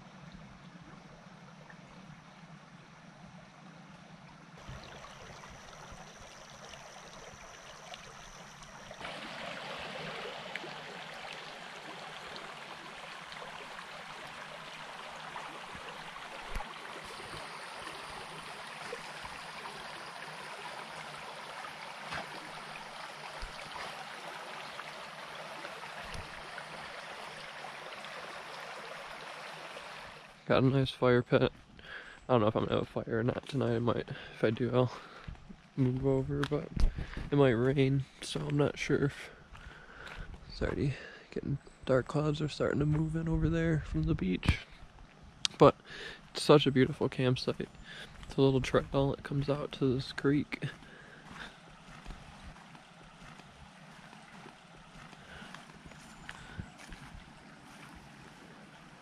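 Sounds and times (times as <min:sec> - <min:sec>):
creek babbling over pebbles: 0:00.0 - 0:59.0.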